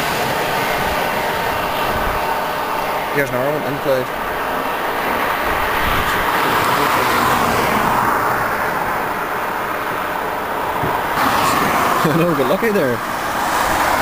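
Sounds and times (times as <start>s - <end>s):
car road noise: 0.0s - 14.0s.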